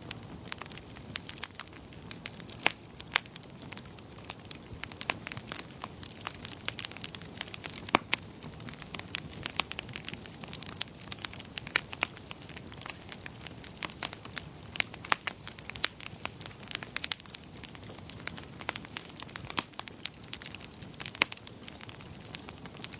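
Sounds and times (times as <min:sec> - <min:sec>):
fire crackling and popping: 0:00.0 - 0:22.9.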